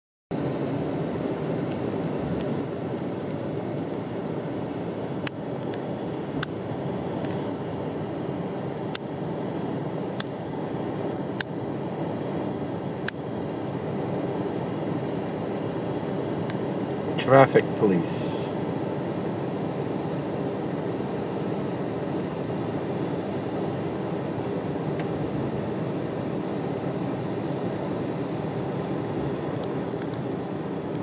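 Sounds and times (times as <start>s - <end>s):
car cabin rumble and hiss: 0.4s - 31.0s.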